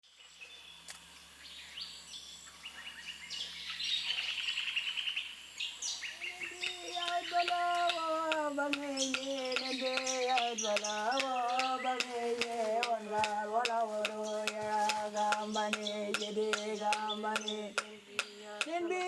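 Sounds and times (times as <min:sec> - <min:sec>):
birds chirping and calling: 0:00.2 - 0:19.0.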